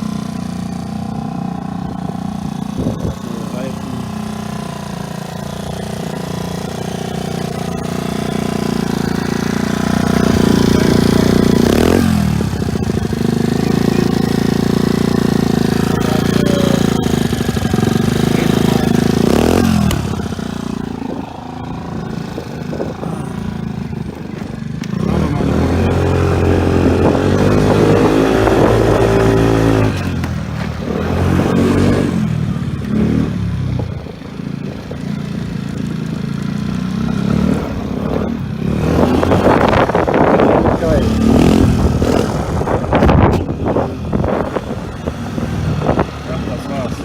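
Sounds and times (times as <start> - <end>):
scooter engine idling and revving: 0.0 - 47.0.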